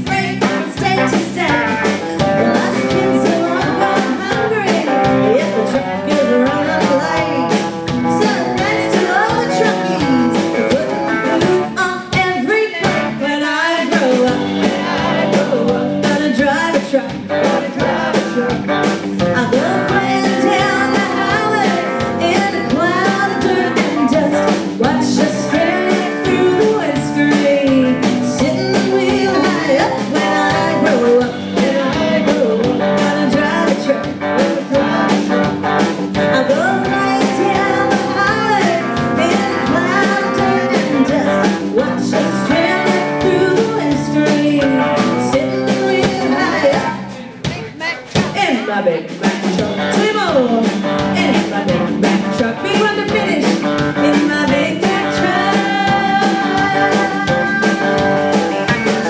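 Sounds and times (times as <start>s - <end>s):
electric bass: 0.0s - 13.4s, 14.0s - 47.3s, 49.5s - 59.0s
woman singing: 0.0s - 58.6s
drum kit: 0.0s - 59.0s.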